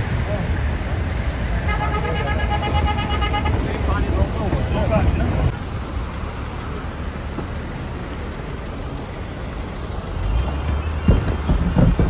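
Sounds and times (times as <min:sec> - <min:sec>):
car driving on road: 0:00.0 - 0:12.0.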